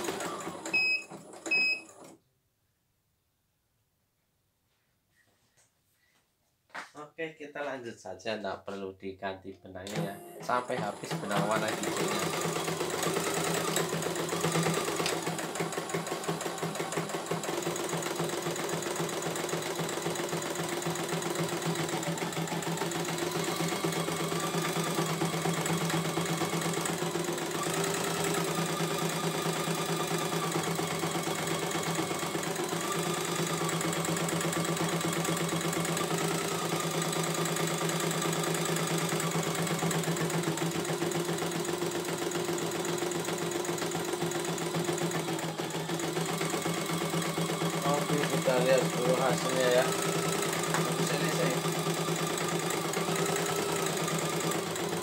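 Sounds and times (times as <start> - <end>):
embroidery machine stitching: 0.0 - 2.2, 9.8 - 55.0.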